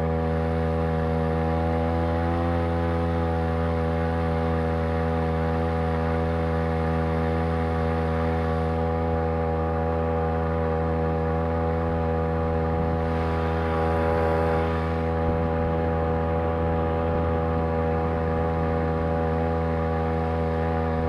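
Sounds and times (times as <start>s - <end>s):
small two-stroke engine running: 0.0s - 21.0s.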